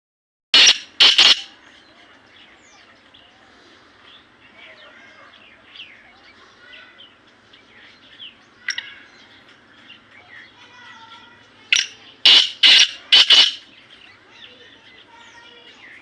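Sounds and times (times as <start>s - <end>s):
birds chirping and calling: 0.6s - 16.0s.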